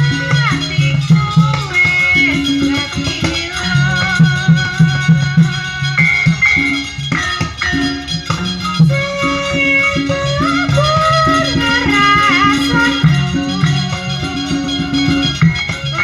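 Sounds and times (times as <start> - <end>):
held melody notes: 0.0 - 16.0
rattle-like percussion: 0.0 - 16.0.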